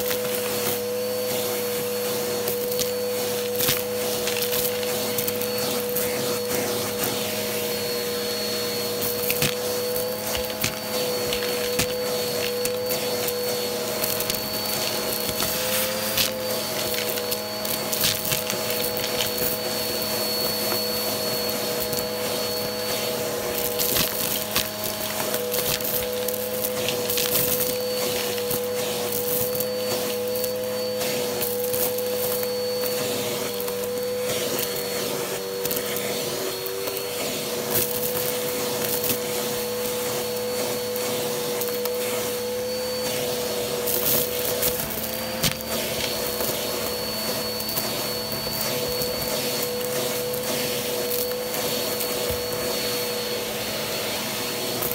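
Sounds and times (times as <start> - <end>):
debris rattling up vacuum: 0.0 - 54.9
vacuum cleaner running: 0.0 - 54.9.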